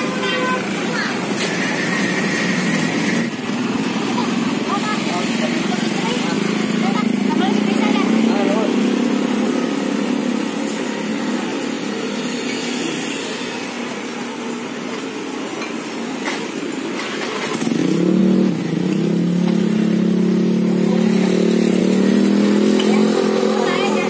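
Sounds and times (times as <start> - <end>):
vehicle engine revving: 0.0 - 14.5, 17.0 - 24.0.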